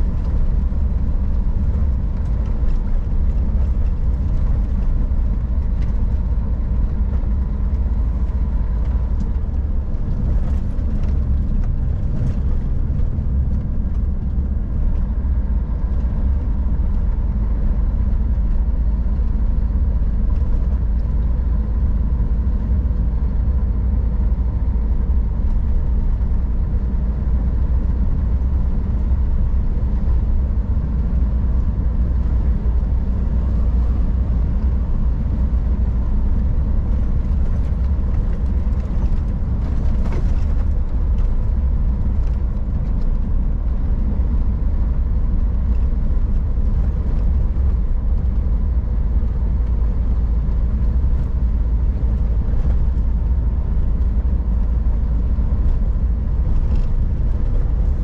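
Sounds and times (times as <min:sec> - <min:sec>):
road noise: 0:00.0 - 0:58.0
truck diesel engine rumbling: 0:00.0 - 0:58.0.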